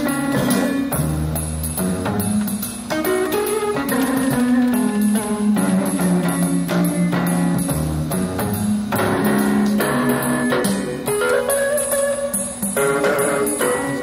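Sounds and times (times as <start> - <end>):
electronic keyboard chords: 0.0 - 14.0
steady drum beat: 0.0 - 14.0.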